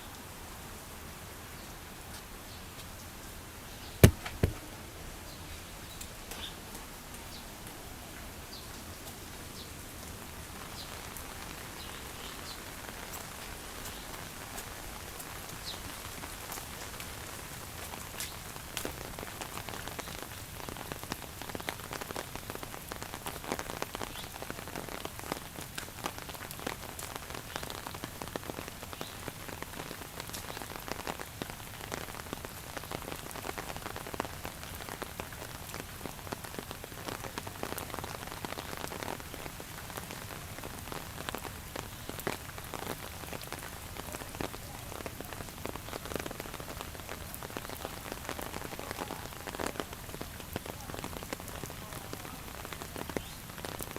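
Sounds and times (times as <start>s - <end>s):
raindrops ticking on a surface: 0.0s - 53.9s
steady rain falling: 0.0s - 53.9s.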